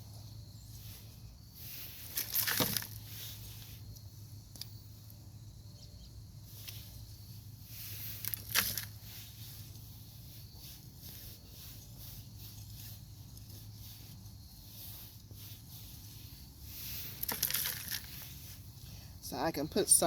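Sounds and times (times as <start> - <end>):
scrape in soil: 0.0 - 4.3, 6.4 - 20.0
hands rustling through soil: 0.0 - 4.8, 6.4 - 20.0.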